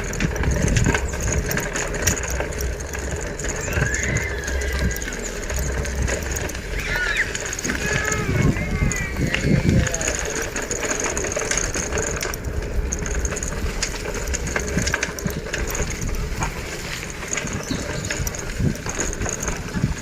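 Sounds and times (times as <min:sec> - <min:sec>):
quick mechanical clicks: 0:00.0 - 0:20.0
wind and tyres rumbling: 0:00.0 - 0:20.0.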